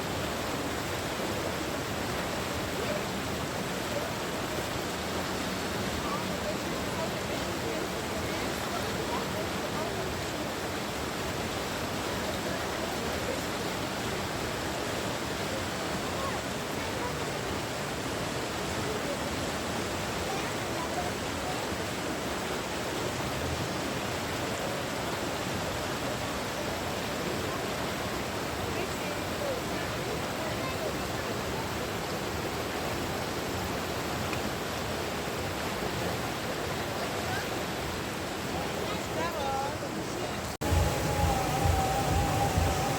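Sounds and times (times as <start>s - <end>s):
flowing water rushing: 0.0s - 42.9s
faint distant voices: 0.1s - 42.9s.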